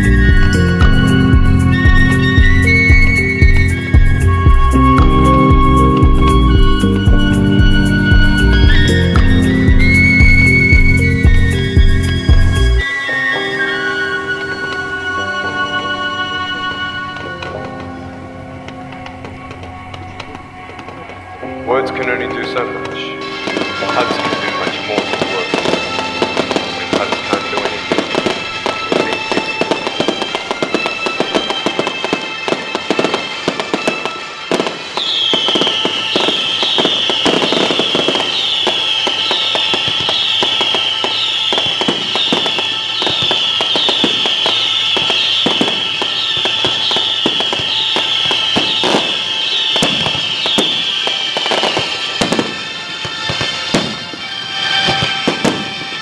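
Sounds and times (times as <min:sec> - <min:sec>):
falling firework whistles: 0:00.0 - 0:22.2, 0:22.9 - 0:56.0
fireworks bangs and crackling: 0:00.0 - 0:56.0.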